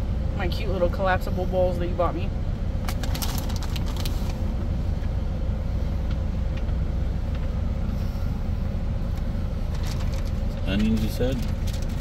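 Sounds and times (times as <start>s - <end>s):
faint steady hum: 0.0s - 12.0s
truck engine idling: 0.0s - 12.0s.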